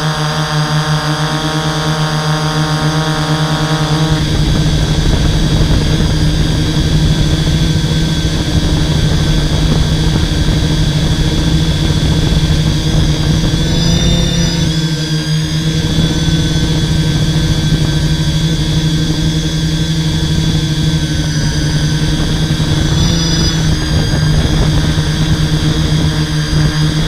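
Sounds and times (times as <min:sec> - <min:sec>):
drone motors and propellers humming: 0:00.0 - 0:27.0.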